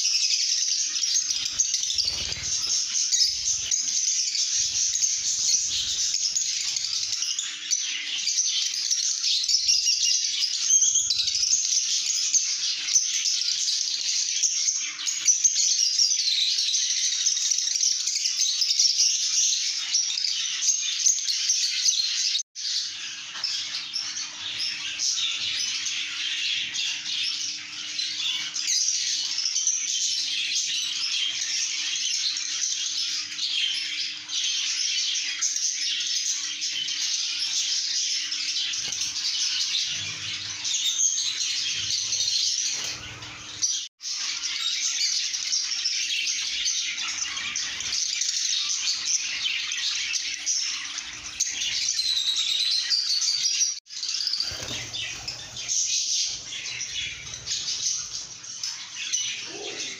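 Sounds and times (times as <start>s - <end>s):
birds chirping and chattering: 0.0s - 59.9s.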